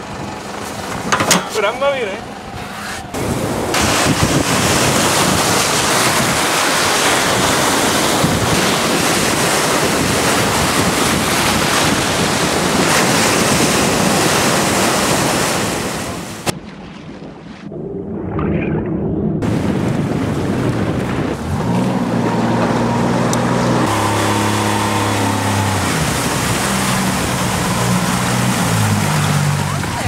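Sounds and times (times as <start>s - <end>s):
surf breaking: 0.9s - 30.0s
wind buffeting microphone: 2.4s - 30.0s.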